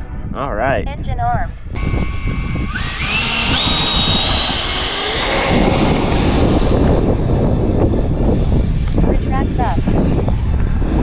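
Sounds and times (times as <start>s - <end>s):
low wind rumble: 0.0s - 11.0s
electric ducted fan whining: 1.8s - 11.0s.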